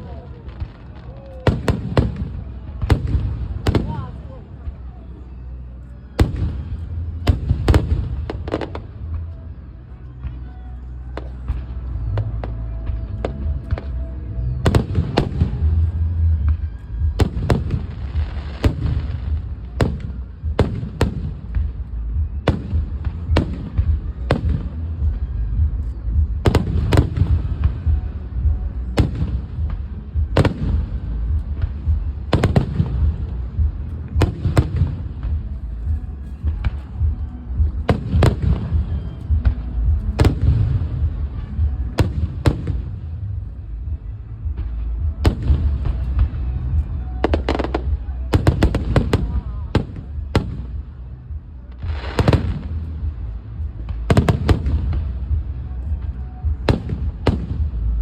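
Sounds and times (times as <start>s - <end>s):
fireworks bangs echoing: 0.0s - 4.9s, 6.2s - 9.6s, 11.2s - 58.0s
low rumble: 0.0s - 58.0s.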